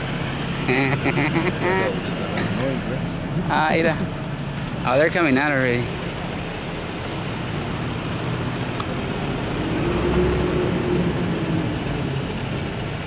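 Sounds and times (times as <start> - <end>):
traffic noise: 0.0 - 13.0
vehicle engine passing: 0.0 - 13.0.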